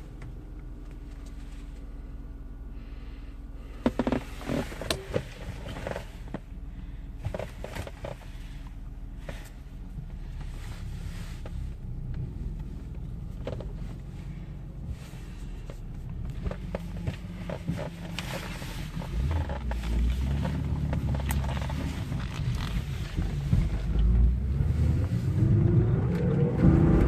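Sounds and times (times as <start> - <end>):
car engine and road noise rumble: 0.0 - 27.0.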